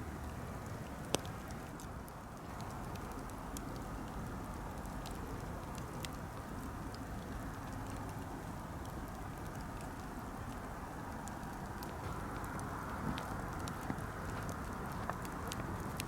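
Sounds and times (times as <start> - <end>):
campfire burning: 0.0 - 16.0
fire crackling and popping: 0.0 - 16.0.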